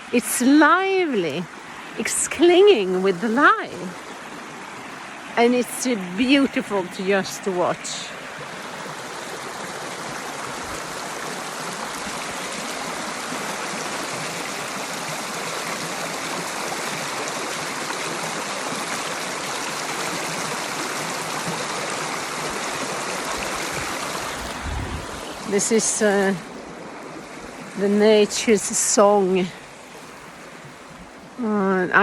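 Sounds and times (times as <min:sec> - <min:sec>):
stream flowing: 0:00.0 - 0:32.0.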